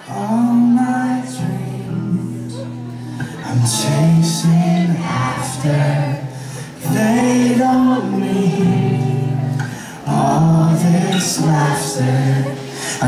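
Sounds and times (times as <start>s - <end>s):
acoustic guitar strummed: 0.0s - 13.0s
man singing into a microphone: 0.0s - 13.0s.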